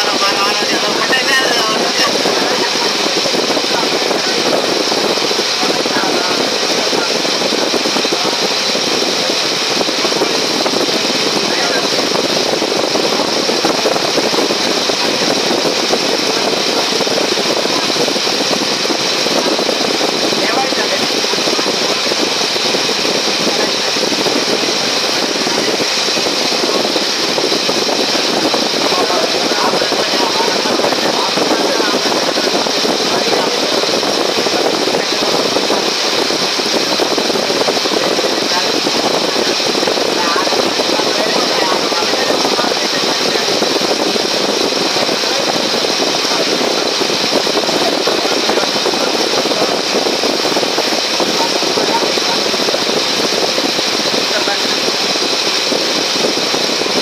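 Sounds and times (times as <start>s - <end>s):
ferry engine running: 0.0s - 57.0s
rush of water and air: 0.0s - 57.0s.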